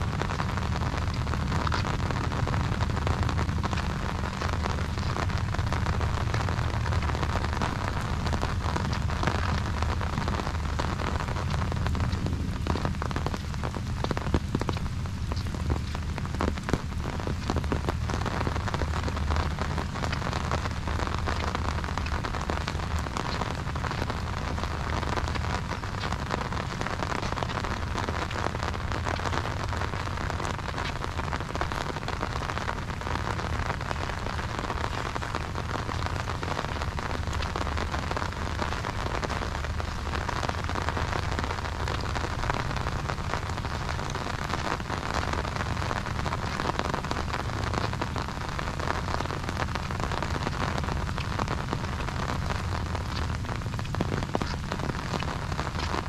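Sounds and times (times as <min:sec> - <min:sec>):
low rumble: 0:00.0 - 0:56.0
rain on an umbrella: 0:00.0 - 0:56.0.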